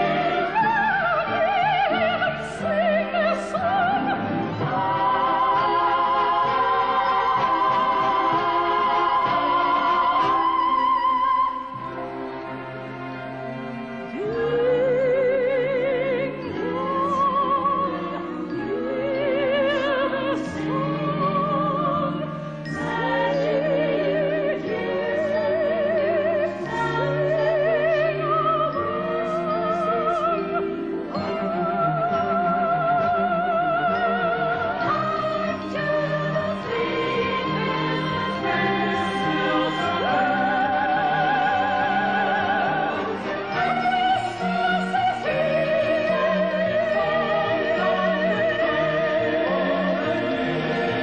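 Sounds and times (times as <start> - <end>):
instrumental accompaniment: 0.0 - 51.0
operatic soprano singing: 0.0 - 51.0
orchestra playing: 0.0 - 51.0.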